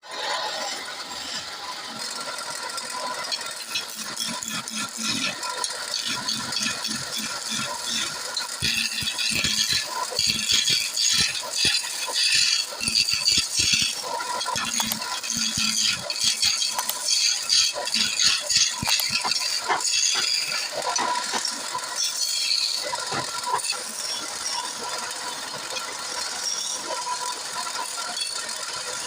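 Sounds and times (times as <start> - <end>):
wood lathe cutting clatter: 0.0 - 29.0.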